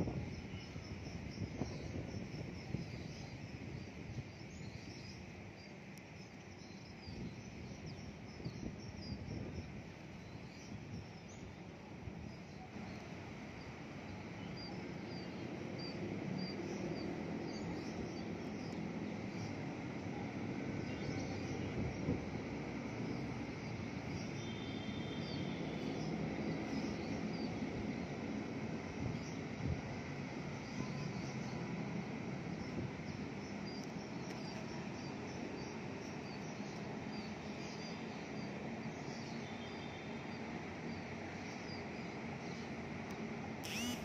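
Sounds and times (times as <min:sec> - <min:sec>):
low city rumble: 0:00.0 - 0:44.0
small birds chirping: 0:00.0 - 0:44.0.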